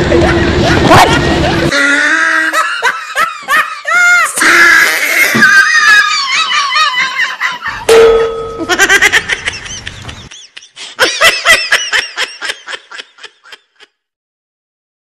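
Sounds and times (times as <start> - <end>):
person laughing: 0.0 - 14.0.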